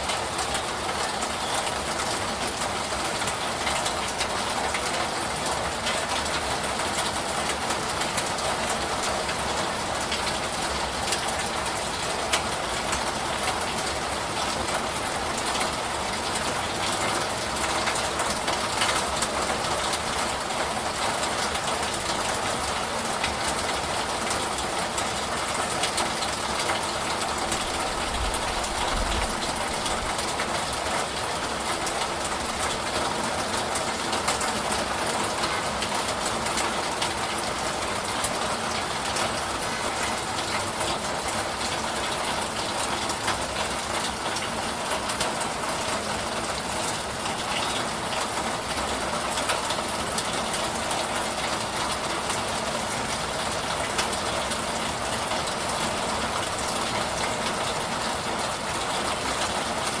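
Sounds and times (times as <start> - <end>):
raindrops ticking: 0.0 - 60.0
steady rain hiss: 0.0 - 60.0.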